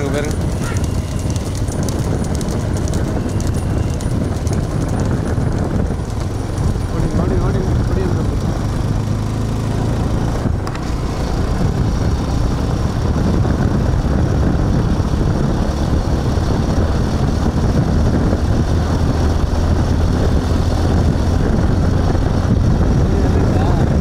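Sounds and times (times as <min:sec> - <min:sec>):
vehicle engine hum: 0:00.0 - 0:24.0
wind rush buffeting microphone: 0:00.0 - 0:24.0.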